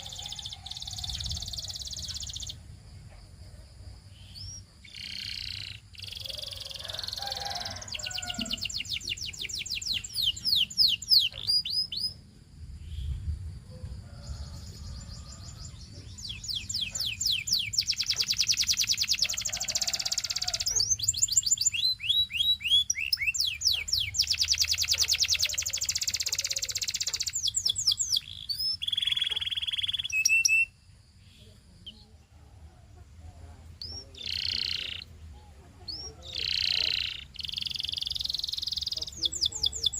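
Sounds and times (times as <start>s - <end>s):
canary singing trills: 0.0s - 3.2s, 4.1s - 13.2s, 14.1s - 39.9s.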